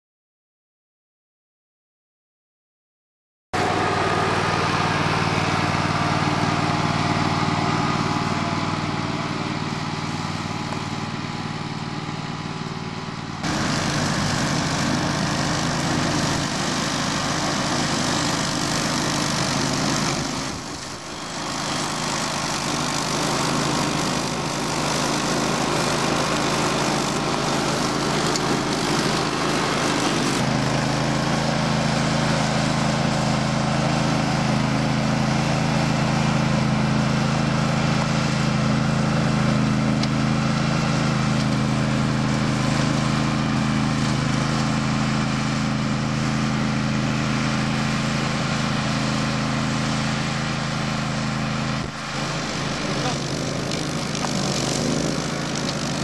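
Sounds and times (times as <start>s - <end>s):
ride-on mower cutting grass: 3.6s - 56.0s.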